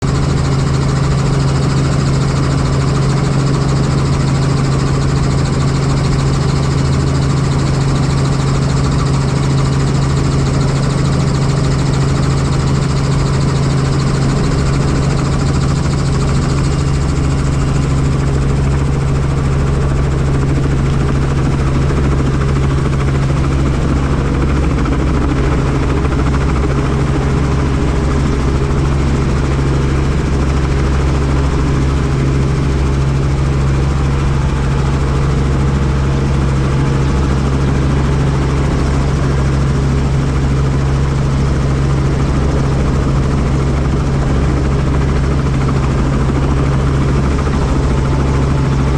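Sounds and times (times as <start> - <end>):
helicopter running: 0.0 - 48.9.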